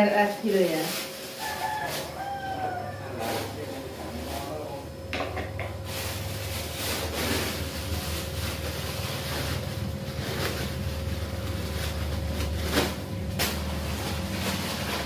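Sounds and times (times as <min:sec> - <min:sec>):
plastic bags crinkling: 0:00.0 - 0:04.7, 0:05.8 - 0:15.0
steady low hum: 0:02.0 - 0:15.0.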